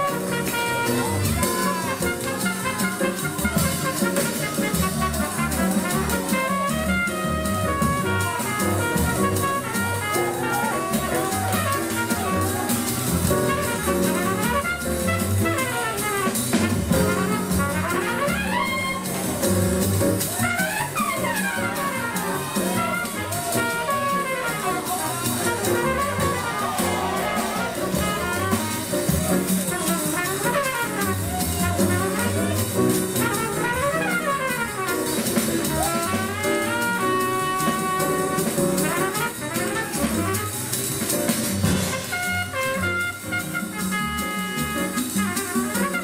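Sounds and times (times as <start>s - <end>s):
jazz brass band with drums: 0.0s - 46.0s.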